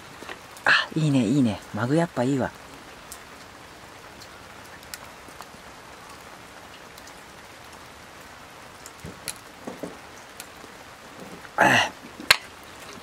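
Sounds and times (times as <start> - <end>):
raindrops ticking on surfaces: 0.0 - 13.0
steady rain falling: 0.0 - 13.0.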